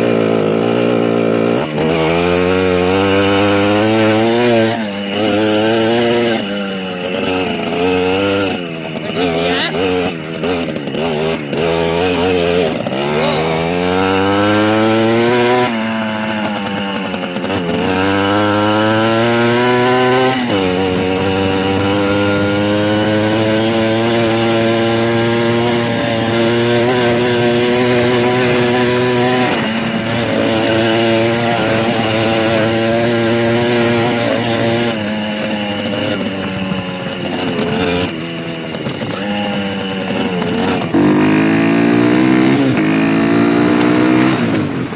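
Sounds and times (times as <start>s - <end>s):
small motorcycle engine running: 0.0s - 44.9s.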